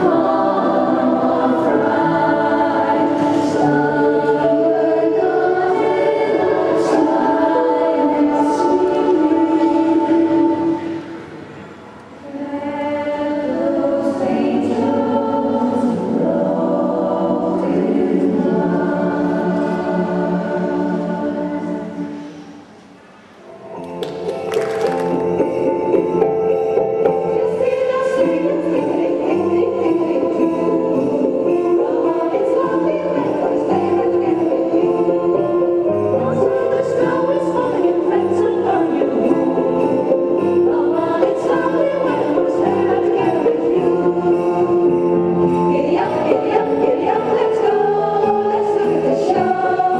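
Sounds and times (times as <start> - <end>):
women's choir singing in harmony: 0.0 - 22.8, 23.5 - 49.9.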